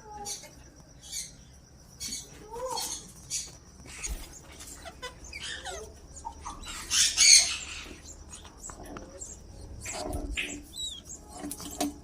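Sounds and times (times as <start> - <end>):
parrots chirping: 1.0 - 12.0.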